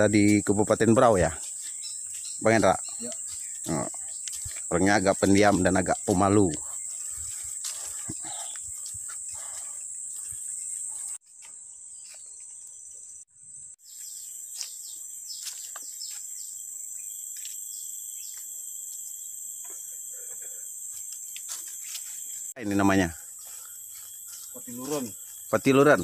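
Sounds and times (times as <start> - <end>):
footsteps on dirt path: 0.0 - 12.8, 13.9 - 16.6, 17.3 - 22.5, 23.1 - 25.6
forest insects chirring: 0.0 - 26.0.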